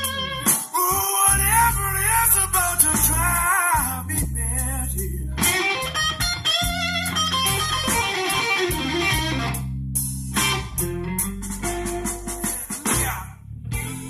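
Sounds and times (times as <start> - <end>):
song on car audio system: 0.0 - 9.7, 10.3 - 14.0.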